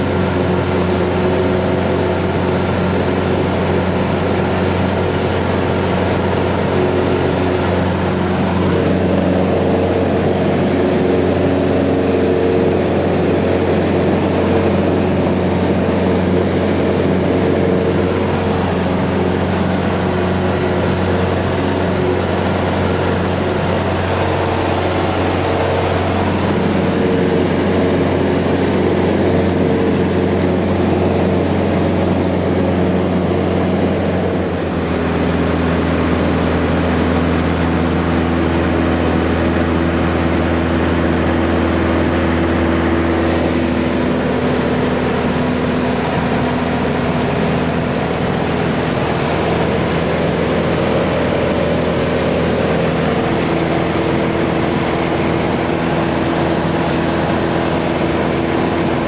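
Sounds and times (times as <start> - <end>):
airplane engine and propeller droning: 0.0 - 59.0.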